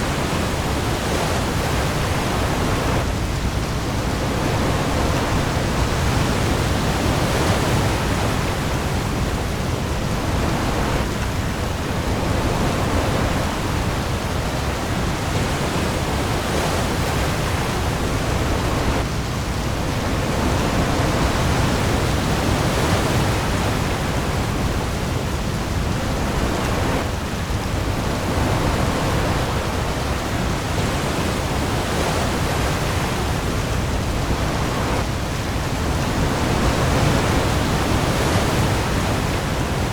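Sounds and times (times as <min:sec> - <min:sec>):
heavy rain on sea: 0:00.0 - 0:39.9
waves: 0:00.0 - 0:39.9.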